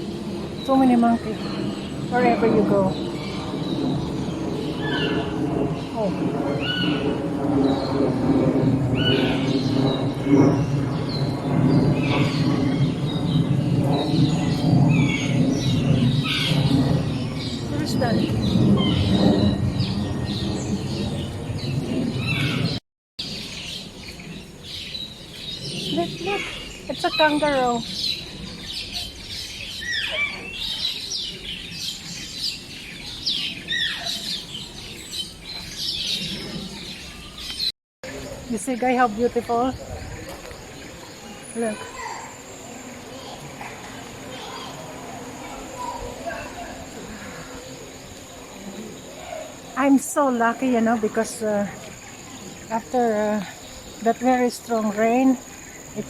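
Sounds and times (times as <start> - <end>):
birds chirping: 0.0 - 56.0
low outdoor background hum: 0.0 - 56.0.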